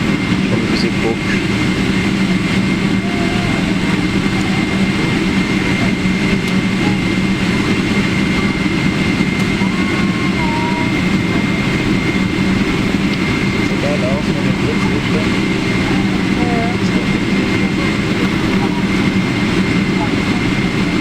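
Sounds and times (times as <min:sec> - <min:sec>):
high engine whine: 0:00.0 - 0:21.0
jet engine cabin rumble: 0:00.0 - 0:21.0.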